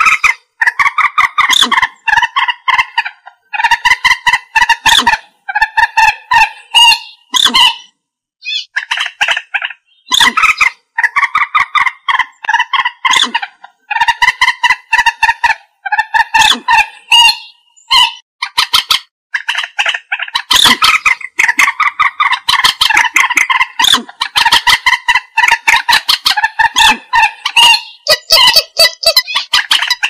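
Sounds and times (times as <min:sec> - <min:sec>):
moorhen calling: 0:00.0 - 0:30.0.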